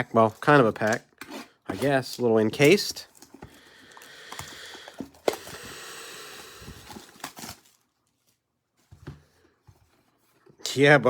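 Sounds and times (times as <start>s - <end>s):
packaging rustling and scraping: 0.0s - 10.5s.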